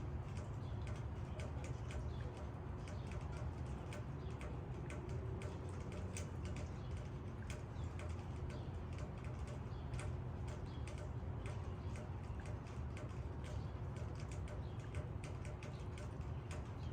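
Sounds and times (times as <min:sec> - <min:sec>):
raindrops ticking on leaves: 0:00.0 - 0:16.9.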